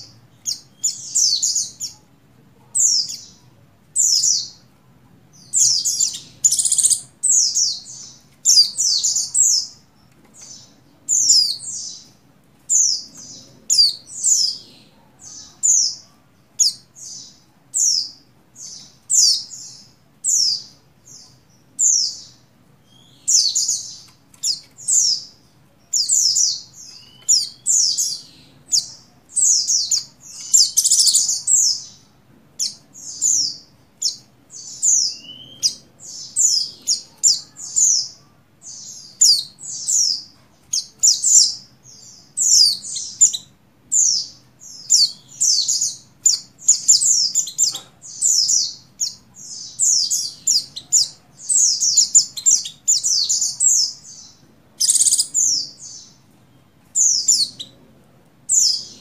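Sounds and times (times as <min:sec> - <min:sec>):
bird twittering high chirps: 0:00.0 - 0:02.0, 0:05.3 - 0:57.8.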